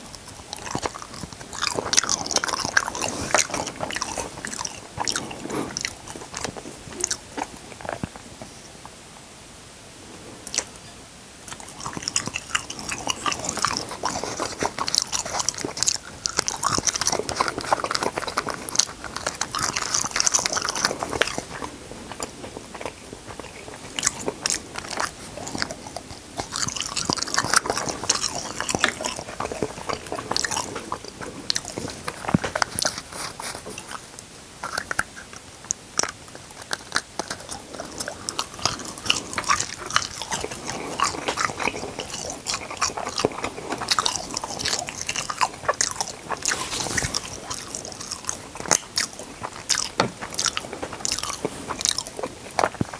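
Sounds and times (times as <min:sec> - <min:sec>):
person biting and chewing food: 0:00.0 - 0:08.1, 0:11.5 - 0:52.9.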